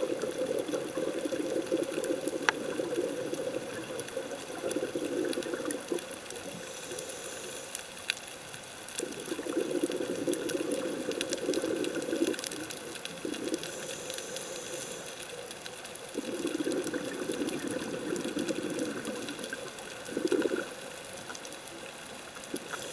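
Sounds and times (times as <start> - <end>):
exhaled air bubbling underwater: 0.0 - 22.9.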